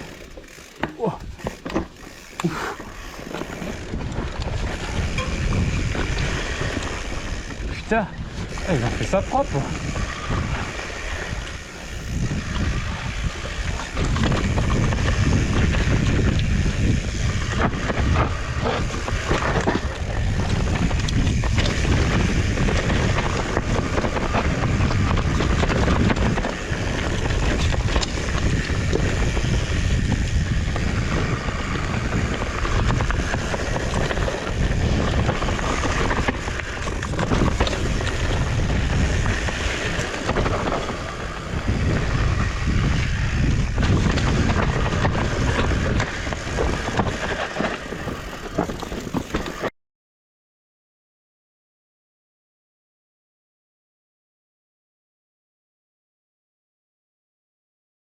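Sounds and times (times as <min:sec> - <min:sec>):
bike knocks and rattles: 0:00.0 - 0:10.6, 0:11.6 - 0:49.7
bike tyres rumbling on trail: 0:00.0 - 0:49.7
wind on microphone: 0:01.0 - 0:49.7.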